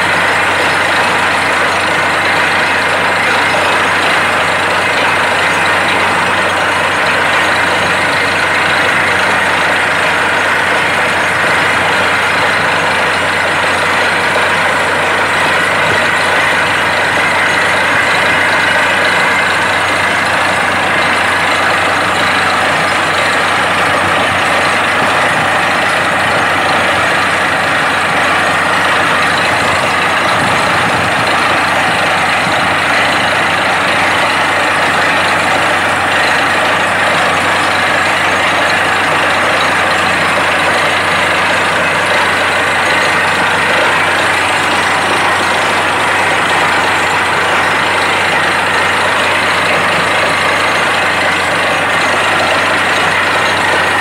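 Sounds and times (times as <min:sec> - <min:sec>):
engine and compressor drone: 0:00.0 - 0:54.0.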